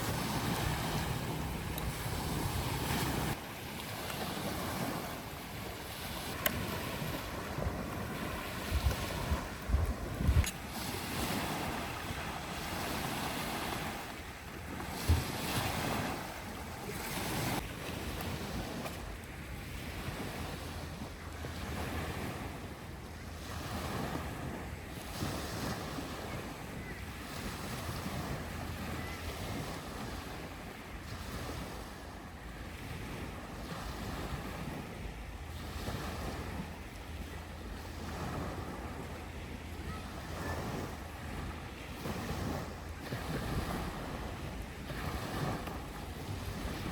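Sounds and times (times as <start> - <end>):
sea waves washing onto shore: 0.0 - 46.9
wind rumbling on microphone: 0.0 - 46.9.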